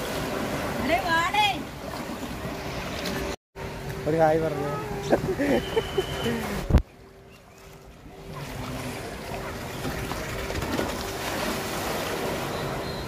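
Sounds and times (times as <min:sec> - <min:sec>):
water rushing and splashing: 0:00.0 - 0:06.8, 0:07.5 - 0:13.0.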